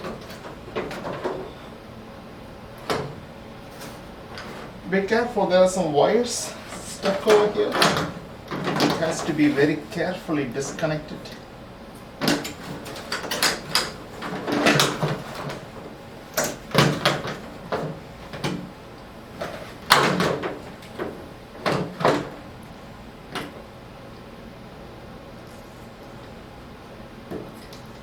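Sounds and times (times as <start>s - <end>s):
wiring and connectors rattling: 0.0s - 23.7s.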